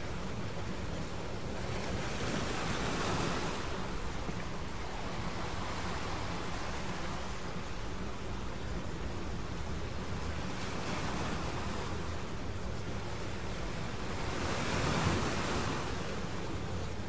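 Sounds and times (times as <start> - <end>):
ocean waves washing on shore: 0.0 - 17.0.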